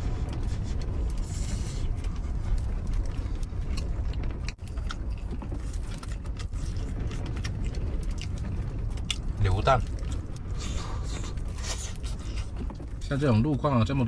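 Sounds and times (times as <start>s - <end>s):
strong wind buffeting a trailer: 0.0s - 14.0s.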